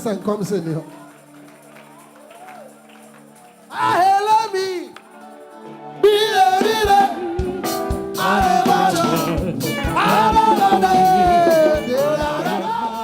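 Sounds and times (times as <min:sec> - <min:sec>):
gospel music with singing: 0:00.0 - 0:13.0.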